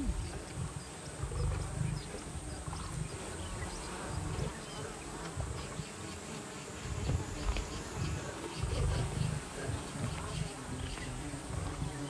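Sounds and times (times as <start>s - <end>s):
lion growls: 0.0s - 5.8s, 8.0s - 12.0s
flies buzzing: 0.0s - 12.0s.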